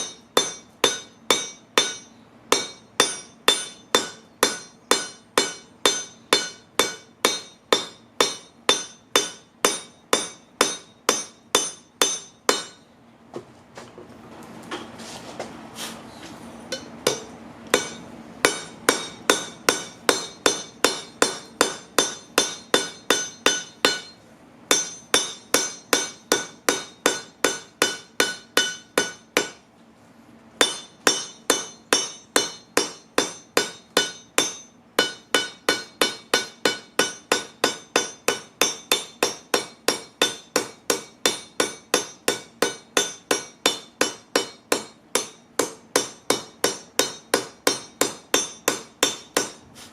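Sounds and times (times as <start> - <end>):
hammer ringing on metal anvil: 0.0 - 12.9, 16.7 - 29.6, 30.6 - 49.6.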